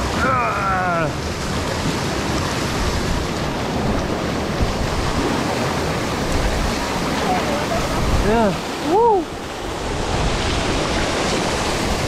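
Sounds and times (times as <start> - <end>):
river rapids rushing: 0.0 - 12.0
wind buffeting microphone: 1.5 - 12.0.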